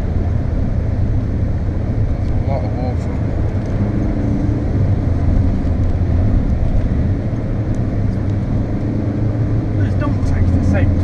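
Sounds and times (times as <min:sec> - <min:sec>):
car engine drone: 0:00.0 - 0:11.0
road and spray noise: 0:00.0 - 0:11.0.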